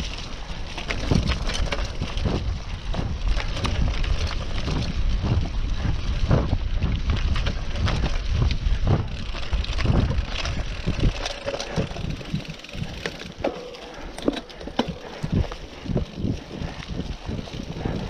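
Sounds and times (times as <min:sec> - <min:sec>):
bike rattling over bumps: 0:00.0 - 0:18.0
bike tyres on dirt and leaves: 0:00.0 - 0:18.0
wind rumble on microphone: 0:00.0 - 0:18.0.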